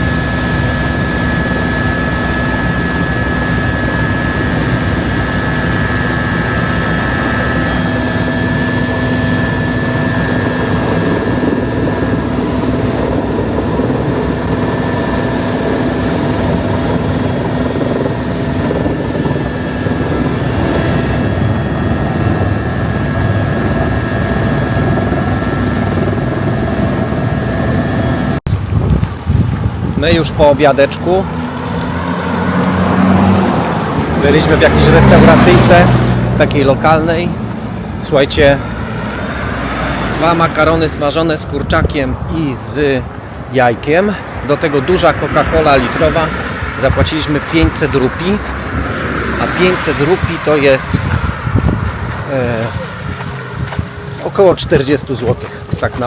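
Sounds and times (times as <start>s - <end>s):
helicopter rotor and engine: 0.0s - 56.0s
steady whining tones: 0.0s - 56.0s.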